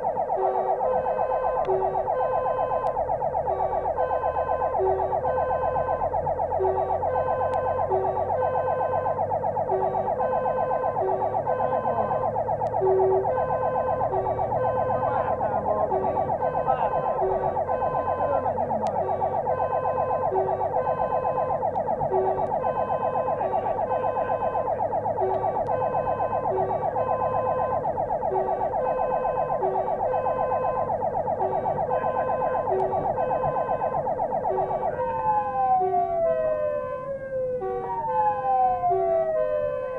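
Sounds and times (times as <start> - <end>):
fire engine running: 0.0 - 39.9
fire engine siren wailing: 0.0 - 39.9.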